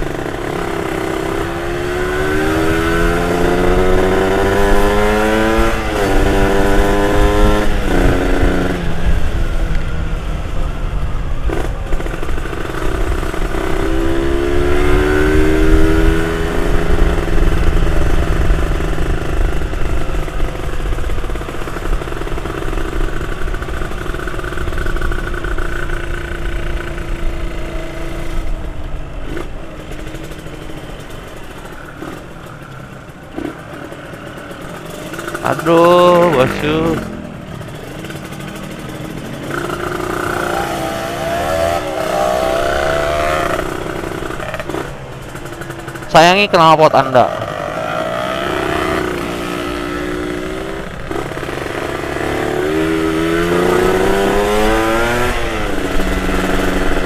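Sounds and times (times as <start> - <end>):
motorcycle engine changing gears: 0.0 - 57.0.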